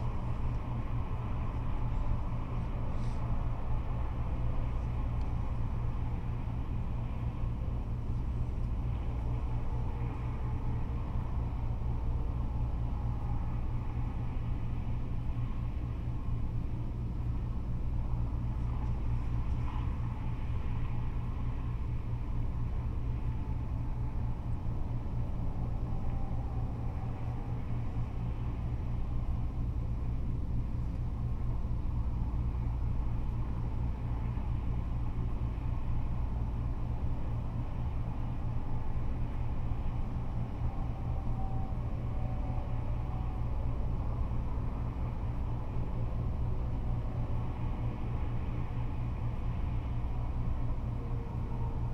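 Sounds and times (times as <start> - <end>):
freeway traffic rumble: 0.0 - 51.9.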